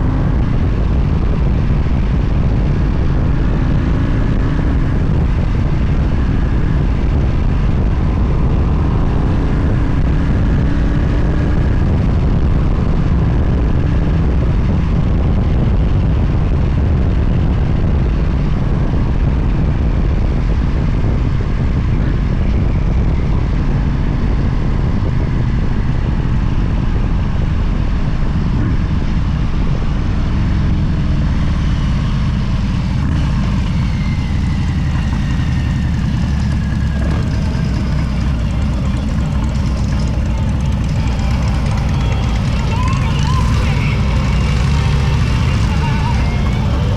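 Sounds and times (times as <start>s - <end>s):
motorcycle engine rumble: 0.0s - 46.9s
wind rush: 0.0s - 46.9s.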